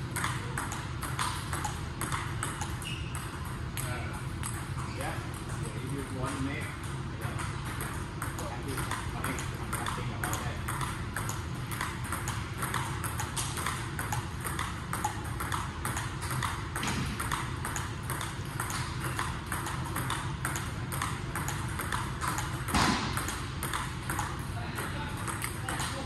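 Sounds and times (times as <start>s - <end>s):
table tennis balls clicking: 0.0s - 26.0s.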